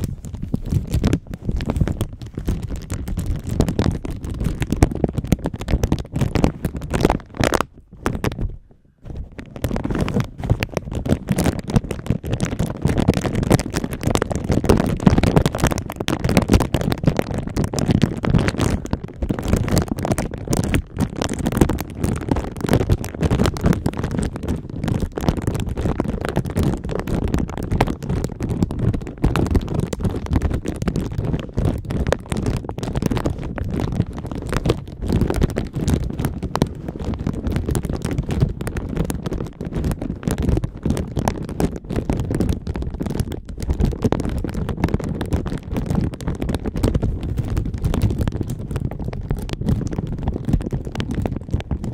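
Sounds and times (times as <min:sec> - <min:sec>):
plastic bag crinkling: 0:00.0 - 0:51.9.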